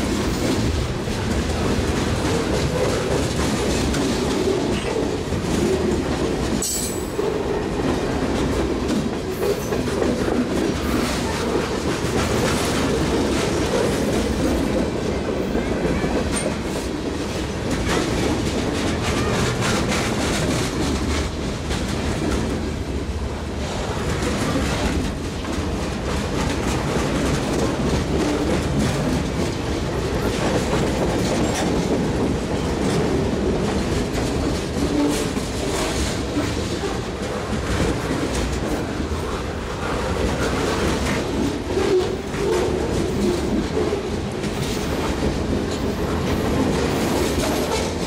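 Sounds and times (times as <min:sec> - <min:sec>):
clickety-clack over rail joints: 0:00.0 - 0:48.0
steel wheels on rail: 0:00.0 - 0:48.0.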